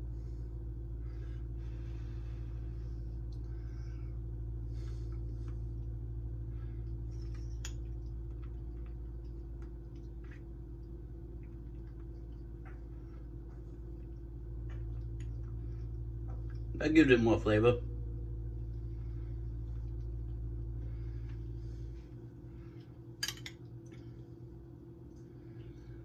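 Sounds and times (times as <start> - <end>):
steady low hum: 0.0 - 26.0
quiet eating: 1.0 - 16.8, 18.0 - 26.0.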